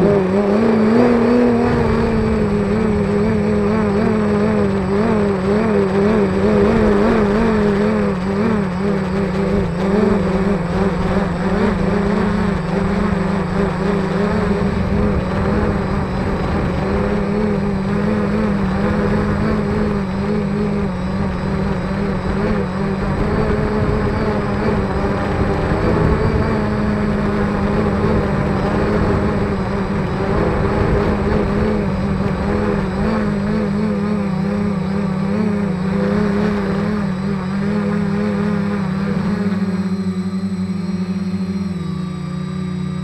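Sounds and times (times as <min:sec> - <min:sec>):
drone motors whirring: 0:00.0 - 0:43.0.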